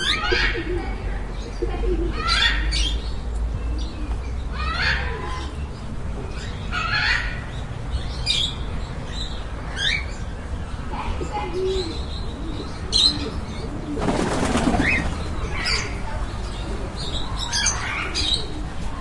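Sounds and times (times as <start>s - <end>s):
birds calling and squawking: 0.0s - 19.0s.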